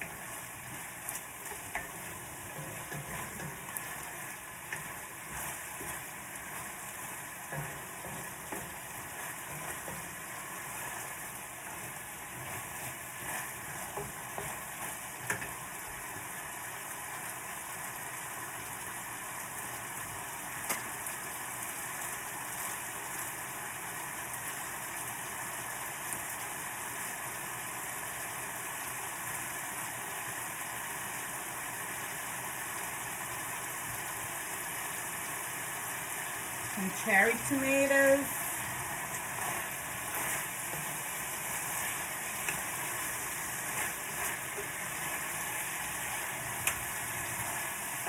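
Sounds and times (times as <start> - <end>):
food sizzling in a frying pan: 0.0 - 48.0.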